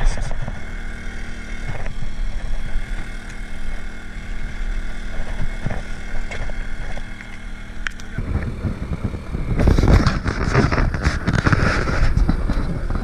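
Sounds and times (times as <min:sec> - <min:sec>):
small boat engine droning: 0:00.0 - 0:13.0.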